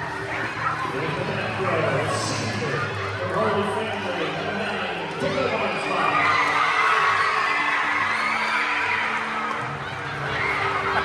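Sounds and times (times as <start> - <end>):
crowd cheering and screaming: 0.0 - 11.0
music playing: 0.0 - 11.0.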